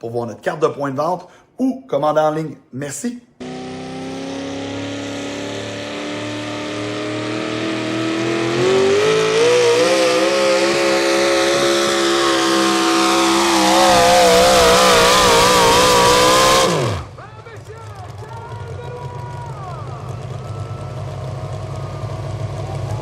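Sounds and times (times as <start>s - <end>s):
truck engine at full throttle: 3.4s - 23.0s.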